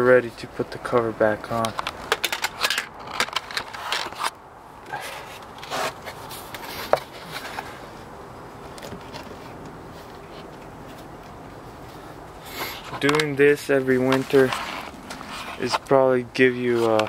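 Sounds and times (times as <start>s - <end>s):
rustling and scraping: 1.5s - 17.0s.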